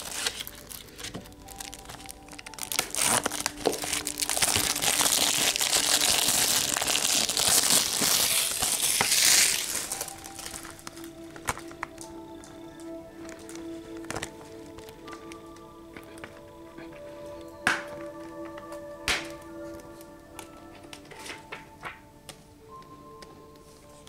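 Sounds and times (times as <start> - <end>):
plastic wrap crinkling: 0.0 - 22.0
quiet music: 0.0 - 24.0.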